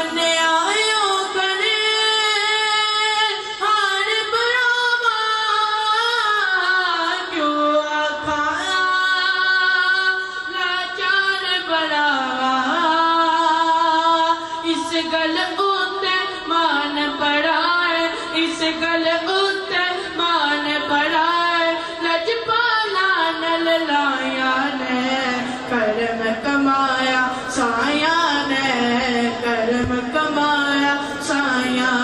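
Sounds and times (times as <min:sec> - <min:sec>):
person singing devotional song: 0:00.0 - 0:32.0.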